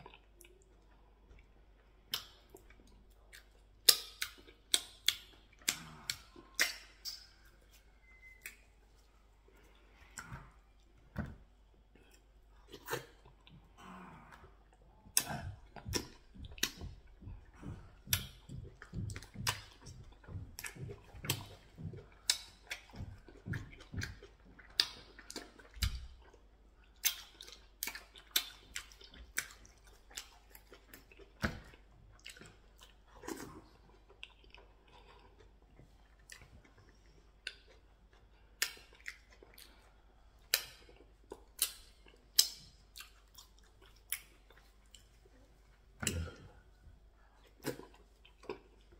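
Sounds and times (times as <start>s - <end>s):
fingers squishing food: 0.0s - 48.9s
man chewing with lip smacks: 0.0s - 48.9s.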